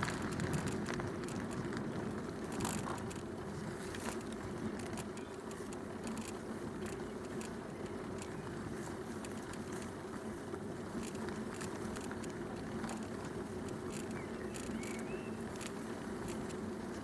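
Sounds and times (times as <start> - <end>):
bicycle tyres rumbling on path: 0.0 - 17.0
small clicks and rattles: 0.0 - 17.0.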